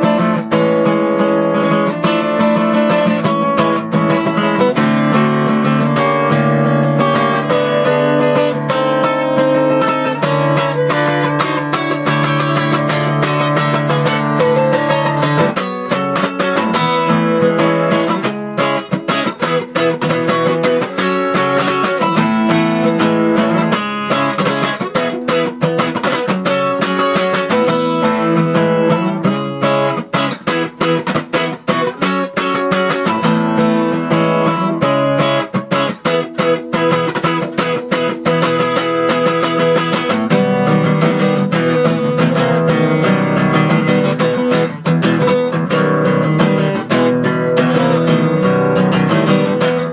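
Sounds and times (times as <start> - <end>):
acoustic guitar picked and strummed: 0.0 - 49.9.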